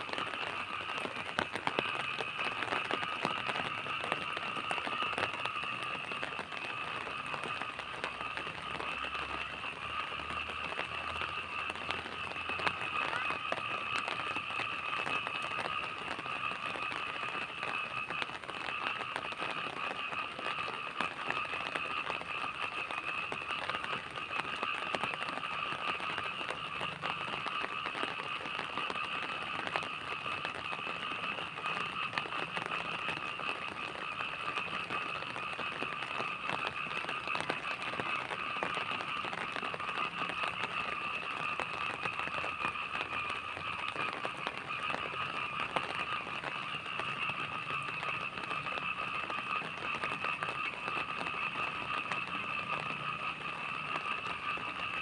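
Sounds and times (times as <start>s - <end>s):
frogs calling: 0.0s - 55.0s
rain falling: 0.0s - 55.0s.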